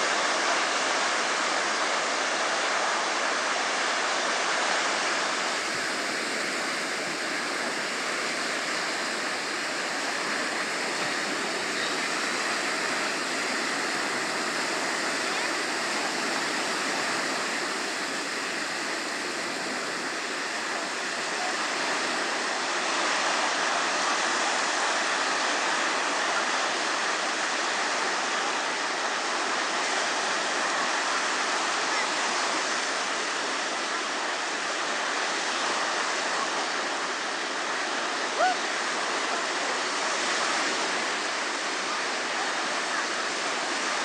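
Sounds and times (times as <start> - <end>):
small waves breaking on beach: 0.0 - 44.0.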